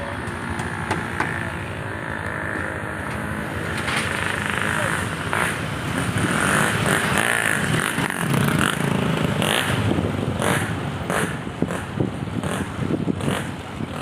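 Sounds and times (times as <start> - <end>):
motorcycles passing: 0.0 - 14.0
vehicle engines revving and passing: 0.0 - 14.0.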